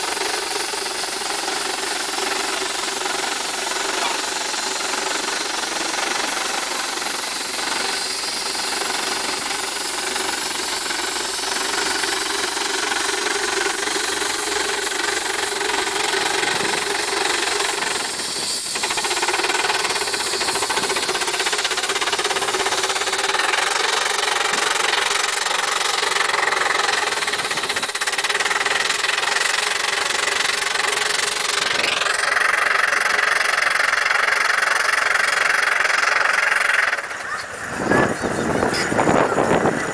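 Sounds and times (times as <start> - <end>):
steam engine exhaust chuffing: 0.0 - 39.9
steam hissing: 0.0 - 39.9.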